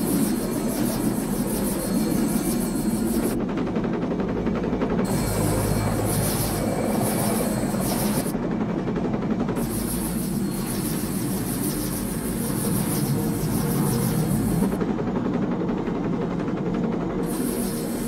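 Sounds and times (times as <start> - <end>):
helicopter rotors and engine: 0.0 - 18.0.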